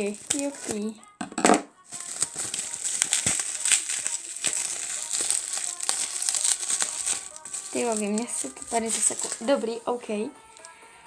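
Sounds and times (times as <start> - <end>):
bubble wrap crinkling: 0.0 - 1.0, 1.8 - 9.8.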